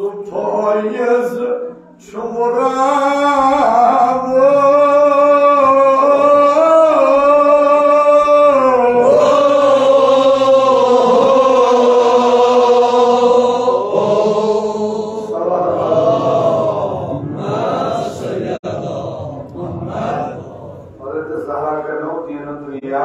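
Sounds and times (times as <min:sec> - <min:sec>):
man chanting unaccompanied: 0:00.0 - 0:23.0.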